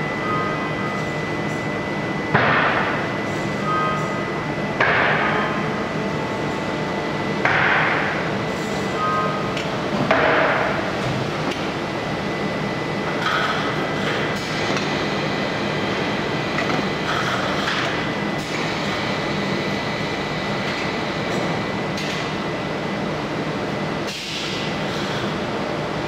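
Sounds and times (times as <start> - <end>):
machine hum and hiss: 0.0 - 26.0.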